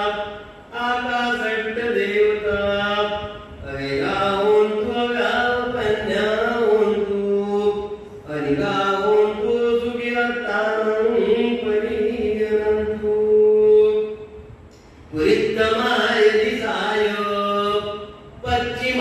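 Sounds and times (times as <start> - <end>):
man chanting into a microphone: 0.0 - 14.5, 15.1 - 19.0.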